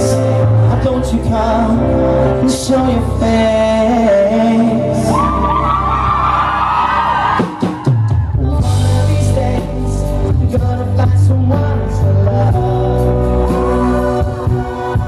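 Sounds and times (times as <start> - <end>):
man singing: 0.0 - 5.7, 8.2 - 15.0
bass guitar: 0.0 - 15.0
live pop band playing: 0.0 - 15.0.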